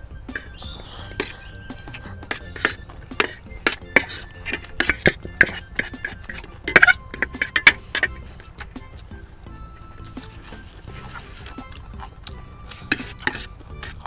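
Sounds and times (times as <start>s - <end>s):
utensils clinking against bowls: 0.3s - 8.9s, 9.8s - 14.0s.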